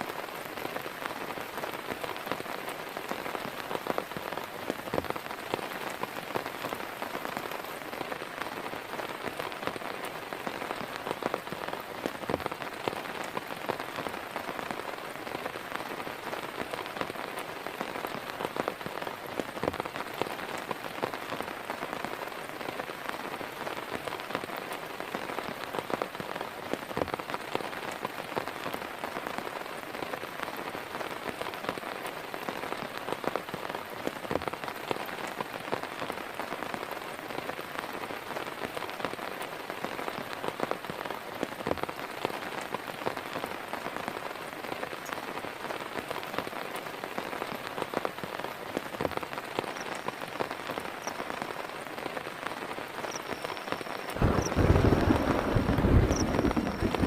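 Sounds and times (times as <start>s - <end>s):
heavy rain falling: 0.0s - 57.0s
raindrops tapping close by: 0.0s - 57.0s.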